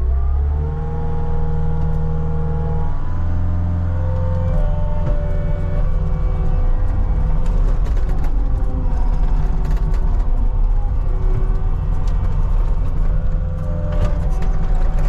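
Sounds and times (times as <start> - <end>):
skid steer diesel engine revving: 0.0 - 15.0.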